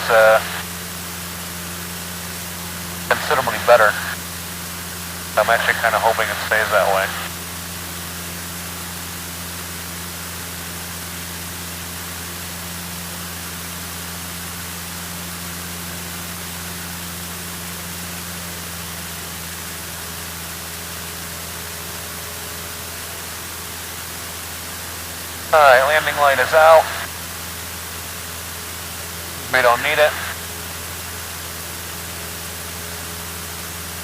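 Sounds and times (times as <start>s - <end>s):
propeller plane engine droning: 0.0s - 34.0s.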